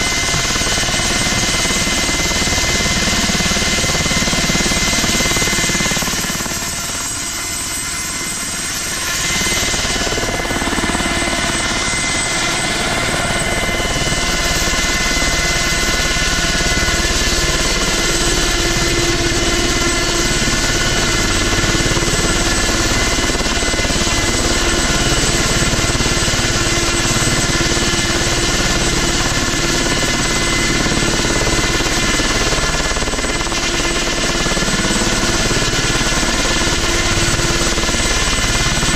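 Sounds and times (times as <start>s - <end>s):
helicopter engine and rotor running: 0.0s - 38.9s.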